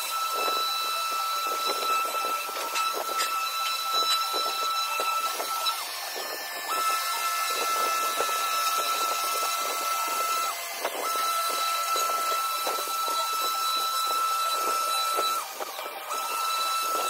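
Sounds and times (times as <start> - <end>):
orbital sander whining: 0.0 - 17.0.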